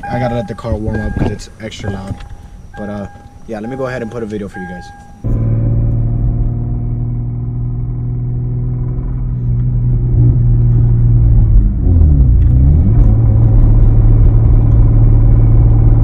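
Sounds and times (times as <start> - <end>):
car engine running steadily: 0.0 - 16.0.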